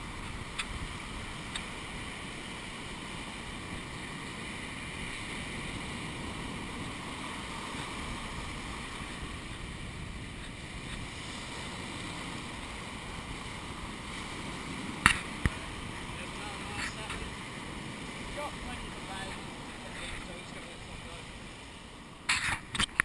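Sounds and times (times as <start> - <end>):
wind noise on microphone: 0.0 - 20.4
surf breaking on shore: 0.0 - 23.0.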